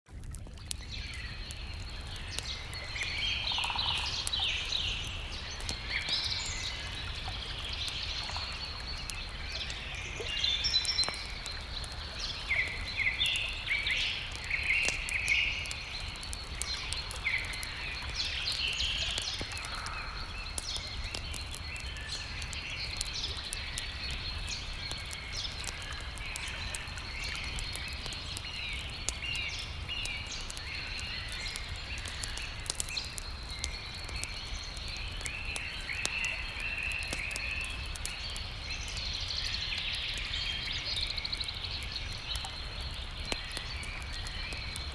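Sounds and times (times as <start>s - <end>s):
campfire crackling: 0.1s - 44.9s
songbirds chirping and trilling: 0.2s - 44.9s.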